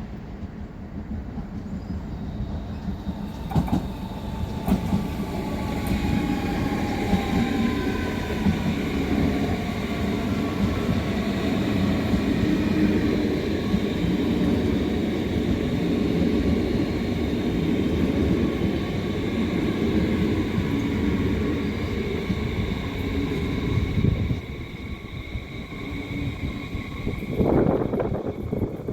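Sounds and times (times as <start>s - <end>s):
train rumbling past: 0.0s - 28.9s.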